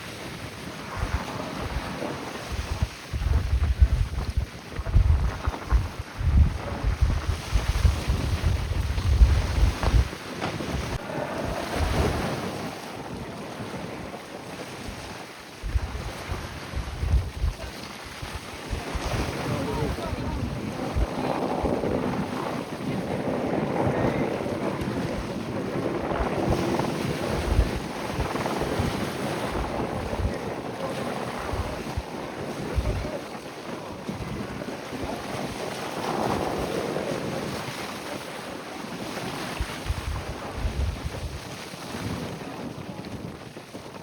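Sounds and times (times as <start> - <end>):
water and waves rushing: 0.0 - 44.0
wind buffeting microphone: 0.0 - 44.0.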